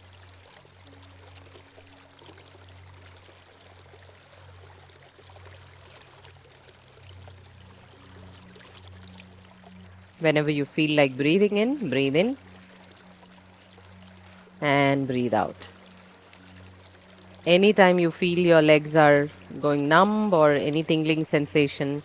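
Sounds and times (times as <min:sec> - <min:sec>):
low steady hum: 0:00.0 - 0:22.0
small stream flowing: 0:00.0 - 0:22.0.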